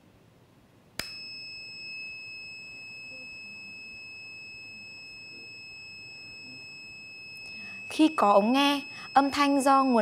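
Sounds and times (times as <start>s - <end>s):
steady high-pitched beep tone: 1.2s - 10.0s.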